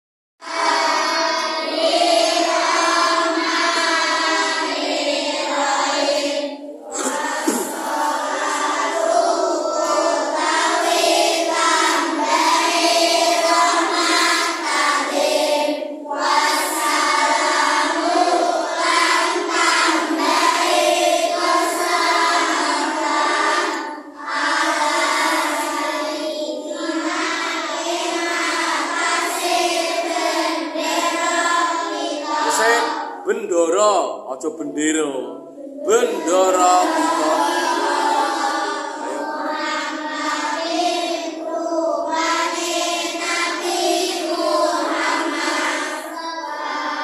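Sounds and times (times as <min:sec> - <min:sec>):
children chanting in unison: 0:00.4 - 0:33.7, 0:35.1 - 0:47.0.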